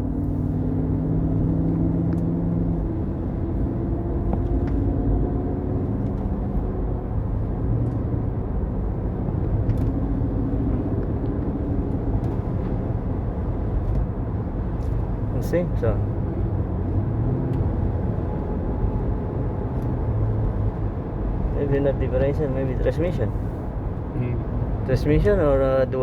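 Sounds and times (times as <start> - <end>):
road rumble inside vehicle: 0.0 - 26.0.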